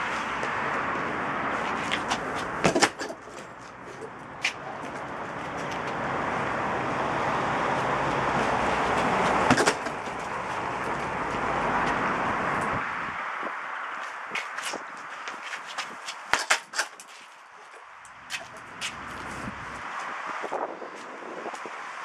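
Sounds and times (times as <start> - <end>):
broad rushing noise: 0.0 - 22.0.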